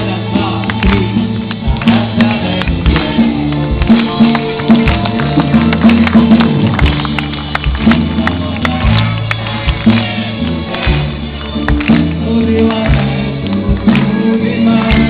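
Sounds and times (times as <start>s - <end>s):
audience clapping along: 0.0s - 15.0s
orchestra and band playing: 0.0s - 15.0s.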